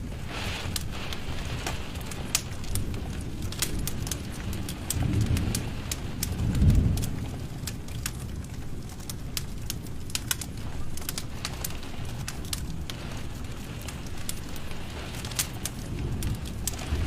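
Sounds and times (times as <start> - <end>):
fire popping: 0.0 - 17.0
low rumble of flame: 0.0 - 17.0
wood fire crackling: 0.0 - 17.0.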